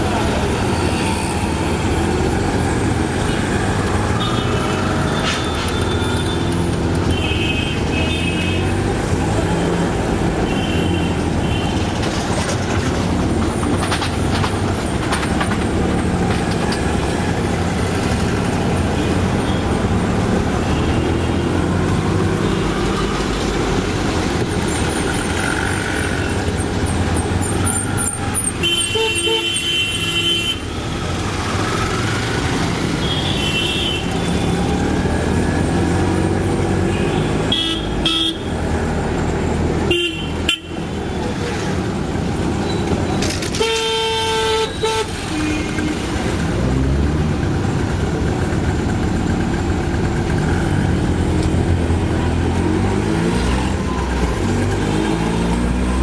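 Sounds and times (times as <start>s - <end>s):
auto-rickshaw engine running: 0.0s - 56.0s
street traffic: 0.0s - 56.0s.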